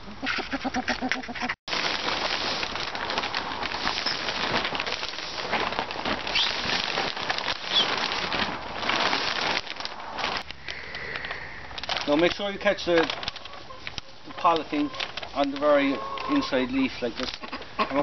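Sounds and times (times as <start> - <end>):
plastic sheet crackling and rustling: 1.7 - 18.0.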